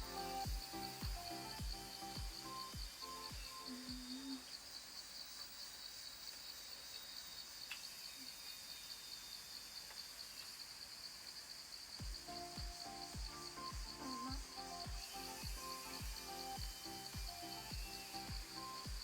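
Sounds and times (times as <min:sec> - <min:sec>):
cicadas chorus: 0:00.0 - 0:19.0.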